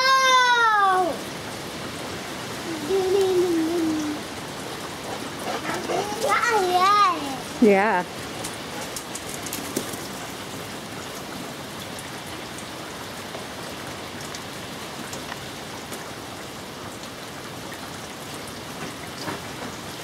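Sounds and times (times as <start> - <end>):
heavy rain hissing: 0.0 - 20.0
raindrops ticking on surfaces: 0.0 - 20.0.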